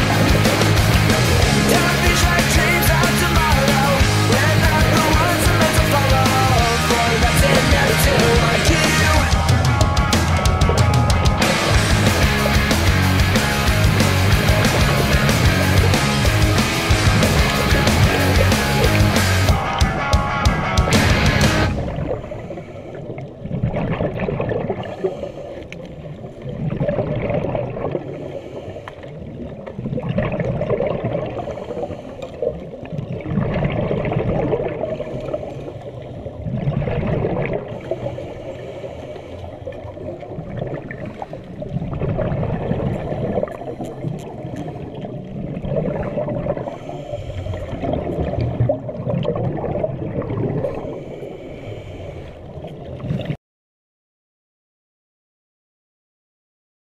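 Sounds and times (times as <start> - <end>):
scuba regulator exhalation bubbles: 0.0 - 53.4.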